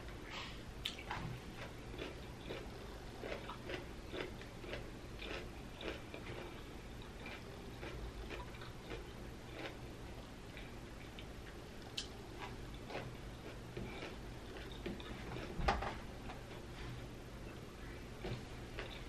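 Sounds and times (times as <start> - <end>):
crunchy chewing: 0.8 - 9.9, 10.5 - 15.6, 16.3 - 19.0.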